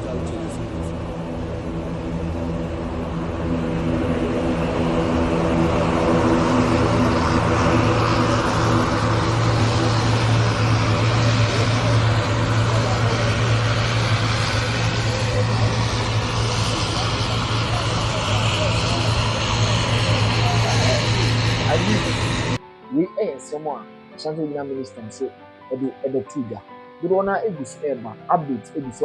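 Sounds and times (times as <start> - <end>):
aircraft engine droning: 0.0 - 29.0.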